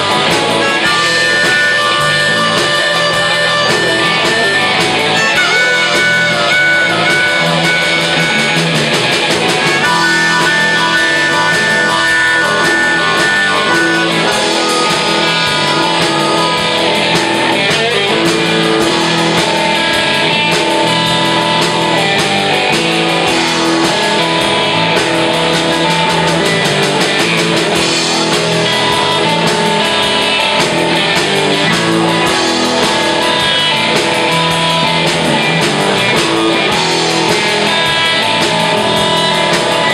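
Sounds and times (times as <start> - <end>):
blues-rock band playing: 0.0 - 39.9
wavering lead guitar notes: 0.0 - 39.9.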